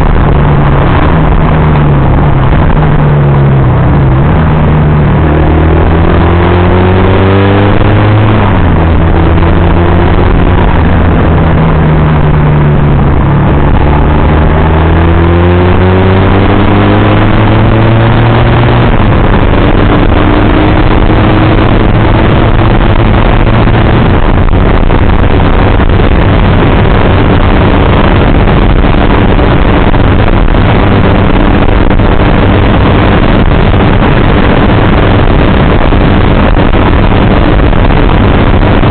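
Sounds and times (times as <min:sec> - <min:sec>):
motorcycle engine running: 0:00.0 - 0:38.9
wind rush over microphone: 0:00.0 - 0:38.9.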